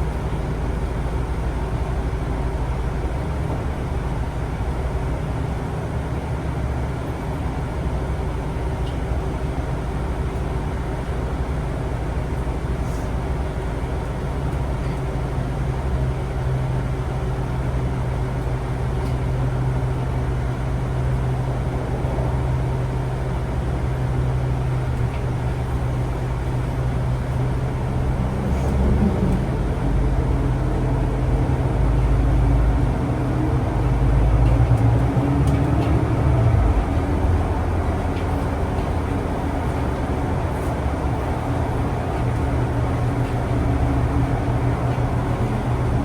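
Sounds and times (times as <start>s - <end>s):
vehicle engine drone from inside: 0.0s - 46.0s.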